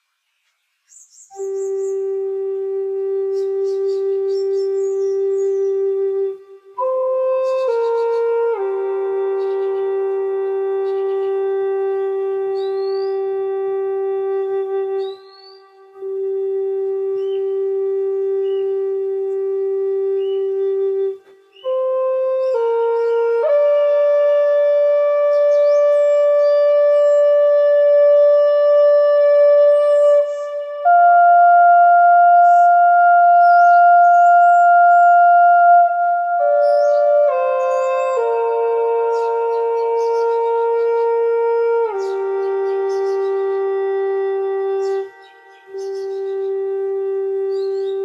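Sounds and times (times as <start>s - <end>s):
flute playing slow melody: 1.0s - 48.0s.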